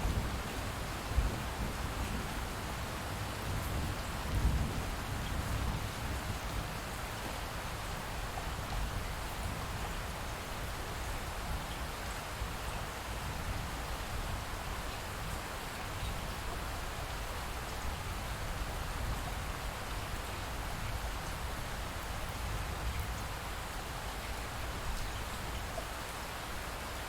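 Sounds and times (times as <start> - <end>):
light rain: 0.0 - 27.0.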